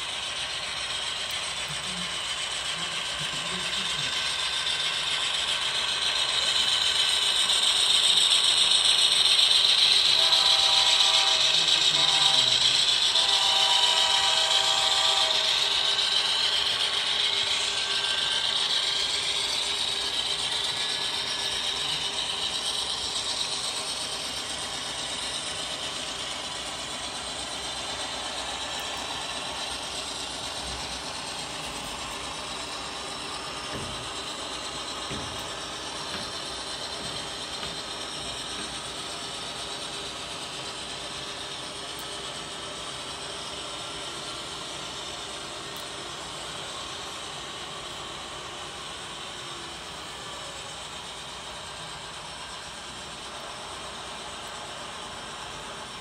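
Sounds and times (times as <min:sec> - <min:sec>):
model train wheels clicking on rails: 0:00.0 - 0:56.0.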